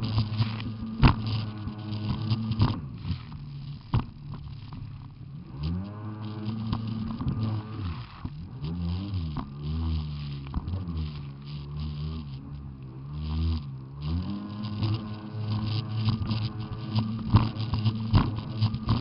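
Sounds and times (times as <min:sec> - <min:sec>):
jet ski engine revving: 0:00.0 - 0:19.0.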